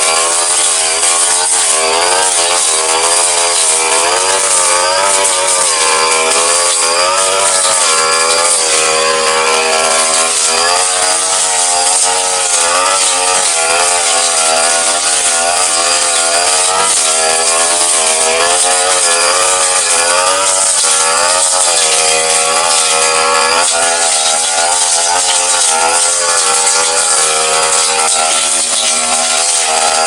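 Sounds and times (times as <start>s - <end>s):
blade cutting grass: 0.0s - 30.0s
brush cutter engine at high revs: 0.0s - 30.0s.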